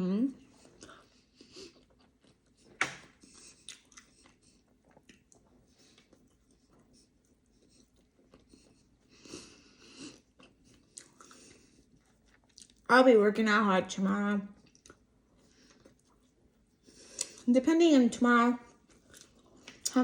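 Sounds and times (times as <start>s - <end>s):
person chewing: 0.5s - 12.9s, 14.6s - 17.5s, 18.7s - 20.0s.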